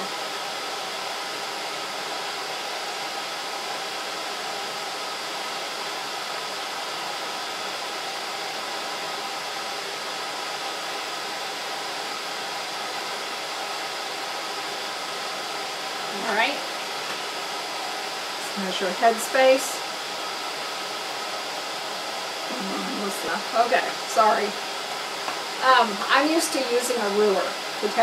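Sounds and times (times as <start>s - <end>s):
steady fan-like hiss: 0.0s - 28.0s.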